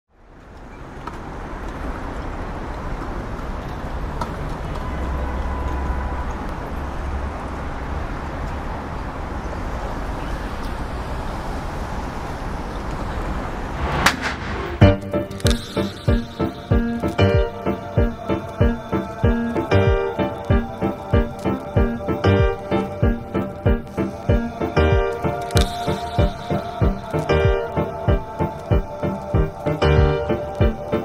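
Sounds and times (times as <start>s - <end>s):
distant road traffic: 0.1s - 31.0s.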